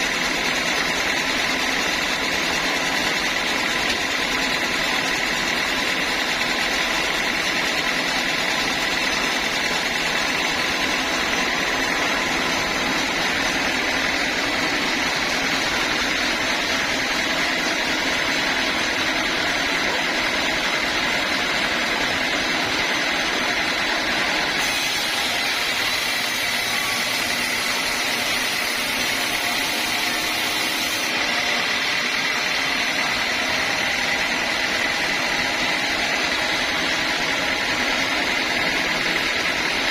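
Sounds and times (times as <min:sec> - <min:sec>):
saw running with high whine: 0:00.0 - 0:39.9.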